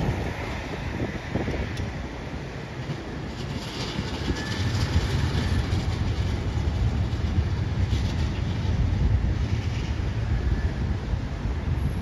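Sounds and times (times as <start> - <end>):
distant tram rumbling on tracks: 0.0 - 12.0
wind buffeting microphone: 0.0 - 12.0.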